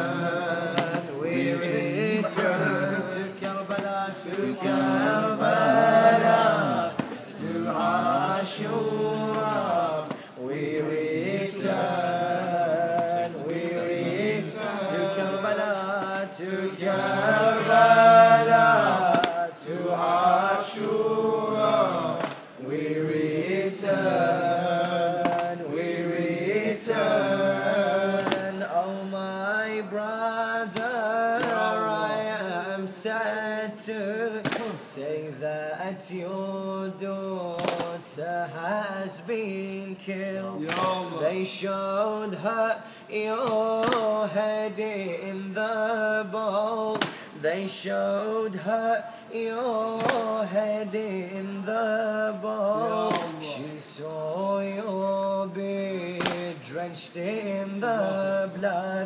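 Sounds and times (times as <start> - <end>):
man chanting a lament: 0.0 - 59.0.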